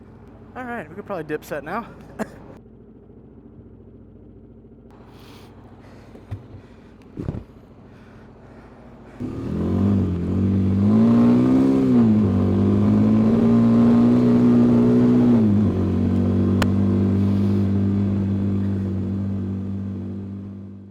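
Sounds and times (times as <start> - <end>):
motorcycle engine revving and idling: 2.4 - 20.9.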